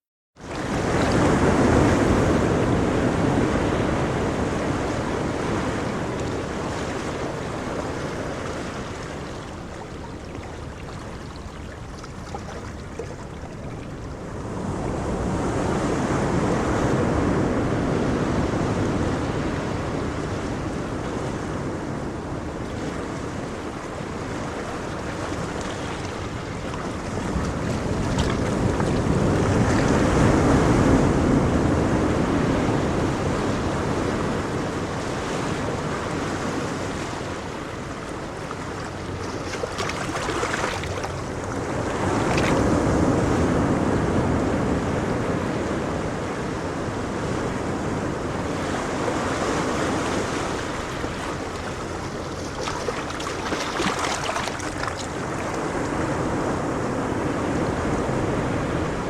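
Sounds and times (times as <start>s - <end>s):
sea waves breaking on beach: 0.4s - 59.0s.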